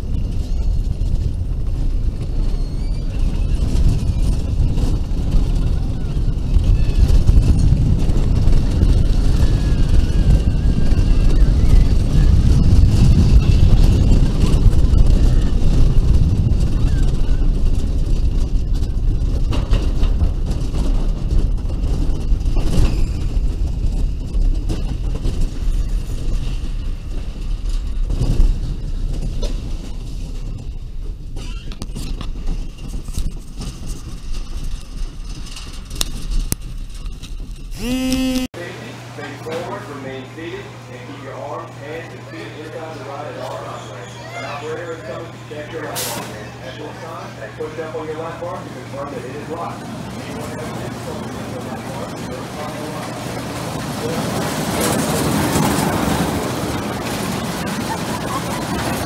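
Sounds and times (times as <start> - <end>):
roller coaster wheels rumbling: 0.0 - 38.0, 38.7 - 59.0.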